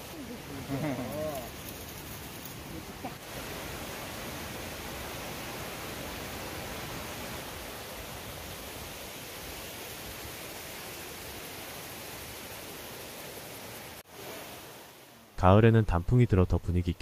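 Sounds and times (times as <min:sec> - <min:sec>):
stream rushing over rocks: 0:00.0 - 0:15.4.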